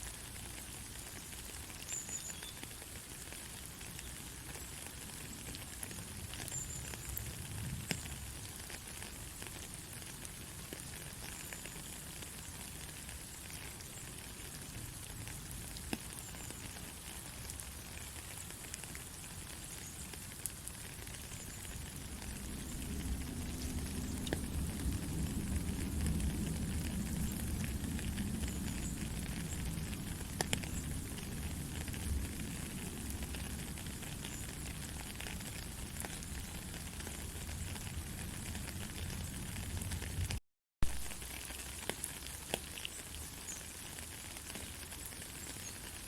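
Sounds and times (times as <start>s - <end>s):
steady rain in forest: 0.0s - 46.0s
raindrops clicking: 0.2s - 46.0s.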